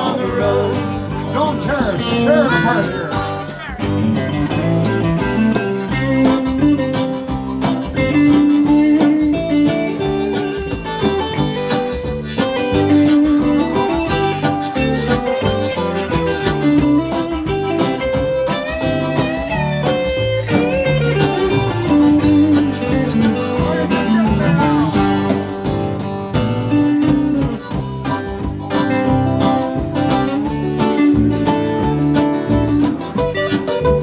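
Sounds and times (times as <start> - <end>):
drums: 0.0 - 34.0
electric guitar lead with bent notes: 0.0 - 34.0
strummed acoustic guitar: 0.0 - 34.0.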